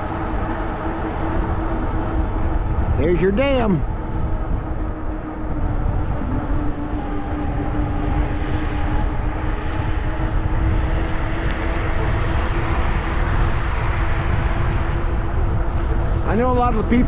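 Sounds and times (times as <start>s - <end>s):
electric motor whine: 0.0s - 17.0s
wind rumbling on microphone: 0.0s - 17.0s.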